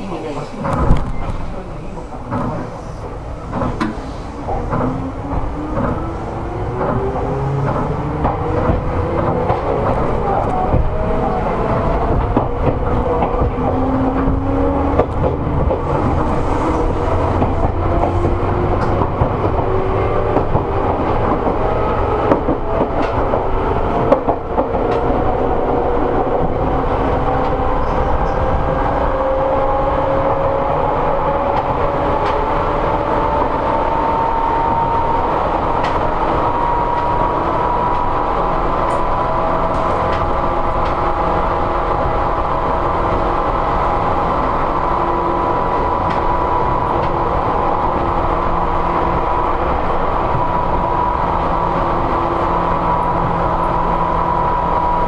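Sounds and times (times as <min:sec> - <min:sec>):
train clacks: 0:00.0 - 0:55.0
wheels rumbling on rails: 0:00.0 - 0:55.0.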